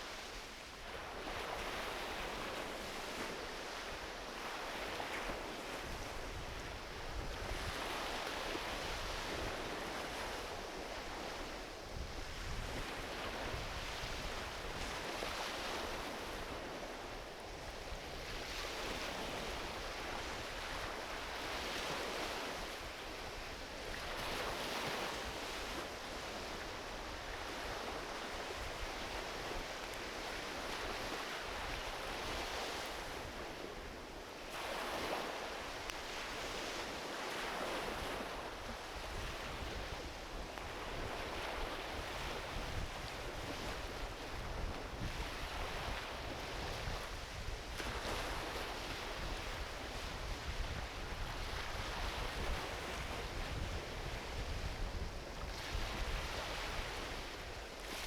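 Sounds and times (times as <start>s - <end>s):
ocean waves on a beach: 0.0s - 58.0s
wind rumble on microphone: 0.0s - 58.0s.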